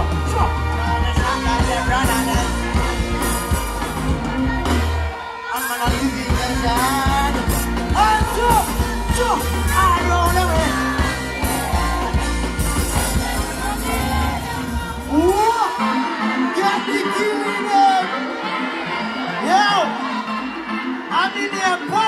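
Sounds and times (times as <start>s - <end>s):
dancehall band bass and drums: 0.0s - 22.0s.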